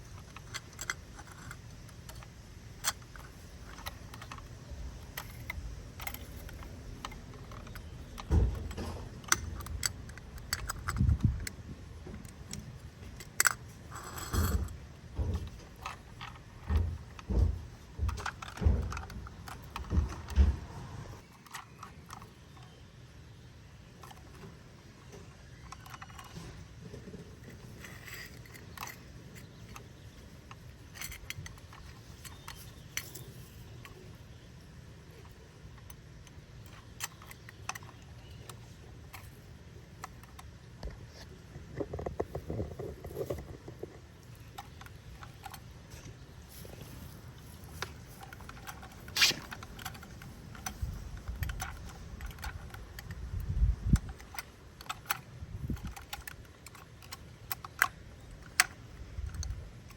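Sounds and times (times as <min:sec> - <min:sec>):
plastic toy clicks and rattles: 0:00.0 - 0:20.4, 0:21.2 - 0:22.8, 0:23.9 - 0:34.4, 0:35.1 - 0:59.9.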